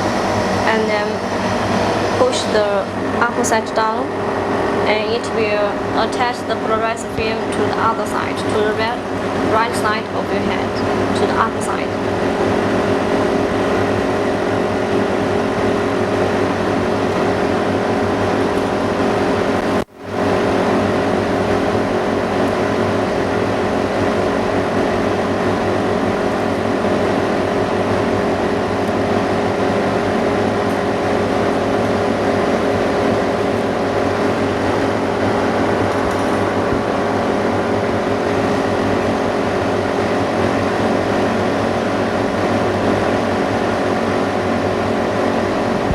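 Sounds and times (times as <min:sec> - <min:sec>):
machine pump: 0:00.0 - 0:45.9
ventilation fan hum: 0:00.0 - 0:45.9.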